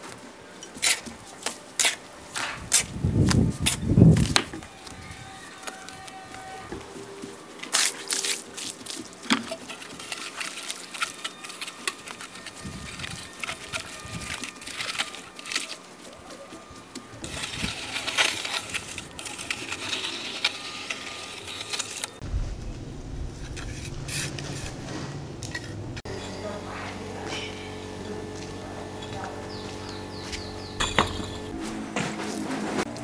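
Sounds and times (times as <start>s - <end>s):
rough scraping: 0.7s - 33.0s.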